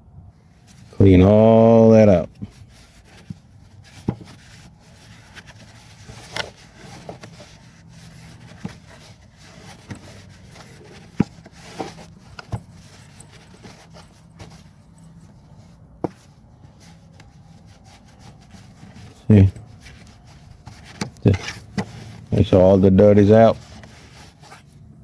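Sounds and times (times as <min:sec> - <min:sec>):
hands scraping engine parts: 0:00.6 - 0:25.0.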